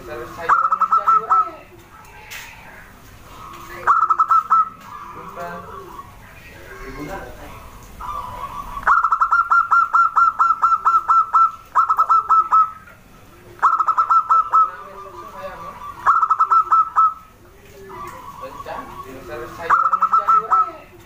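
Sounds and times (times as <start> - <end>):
dove cooing rapidly: 0.0 - 21.0.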